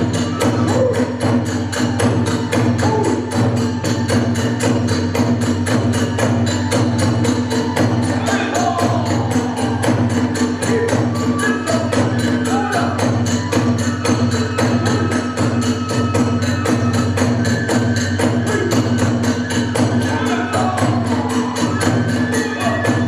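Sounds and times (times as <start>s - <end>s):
flute melody: 0.0s - 4.9s, 6.4s - 23.0s
drum beat: 0.0s - 23.0s
hand cymbals: 0.0s - 23.0s.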